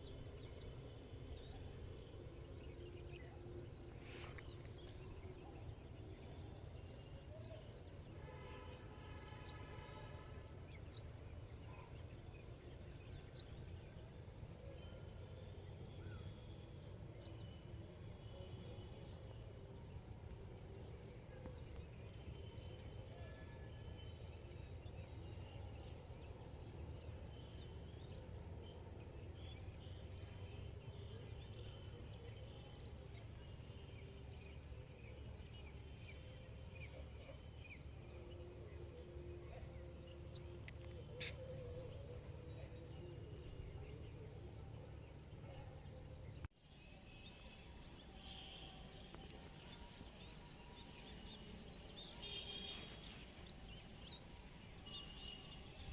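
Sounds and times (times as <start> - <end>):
low rumble of outdoor noise: 0.0 - 55.9.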